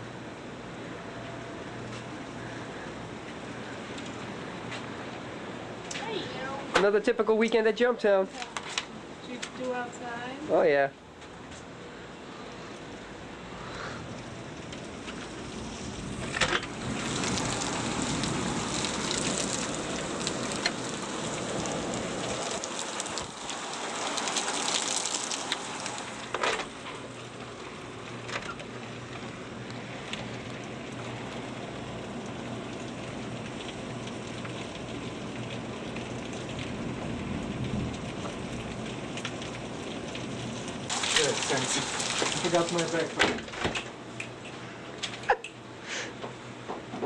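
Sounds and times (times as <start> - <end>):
heavy rain pouring: 0.0 - 10.8, 11.8 - 45.3.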